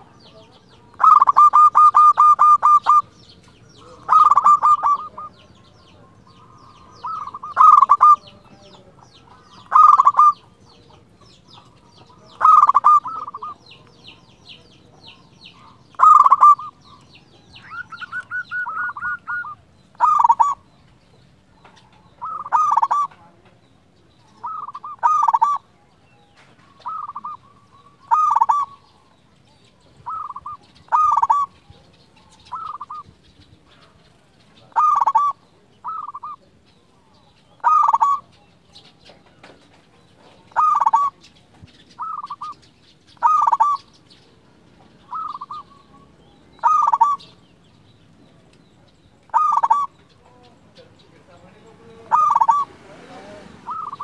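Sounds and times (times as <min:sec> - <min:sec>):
dove cooing: 0:00.0 - 0:23.4, 0:24.1 - 0:44.0, 0:44.7 - 0:47.5, 0:48.8 - 0:54.0.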